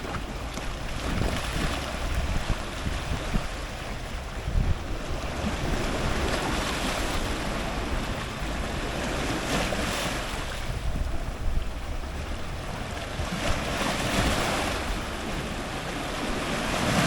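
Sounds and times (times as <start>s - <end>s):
ocean surf breaking on rocks: 0.0s - 17.0s.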